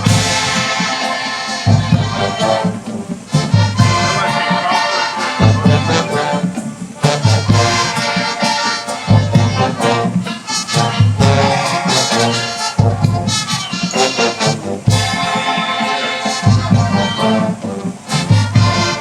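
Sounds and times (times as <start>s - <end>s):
brass holding sustained chords: 0.0s - 19.0s.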